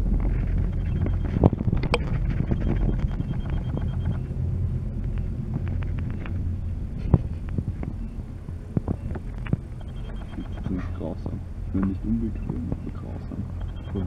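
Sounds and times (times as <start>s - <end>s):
chairlift low rumble: 0.0s - 14.0s.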